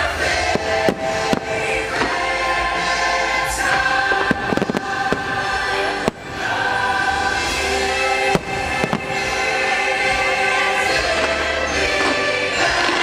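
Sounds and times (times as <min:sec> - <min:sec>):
choral music soundtrack: 0:00.0 - 0:13.0
fireworks bangs: 0:00.0 - 0:13.0.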